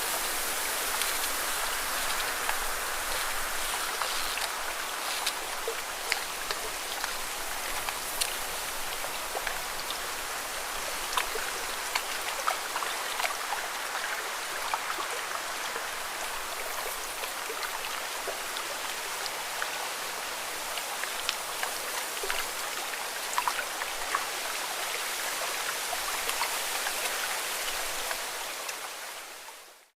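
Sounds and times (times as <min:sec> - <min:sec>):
water falling: 0:00.0 - 0:28.8
water drips and splashes: 0:00.0 - 0:29.9.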